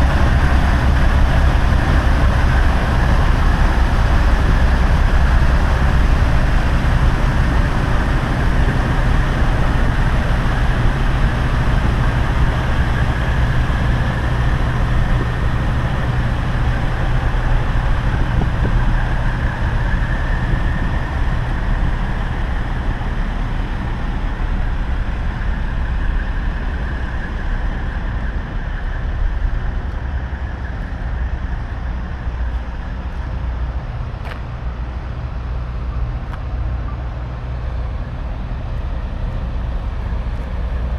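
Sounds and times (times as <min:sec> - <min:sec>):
road and tyre noise: 0:00.0 - 0:40.9
truck engine drone: 0:00.0 - 0:40.9.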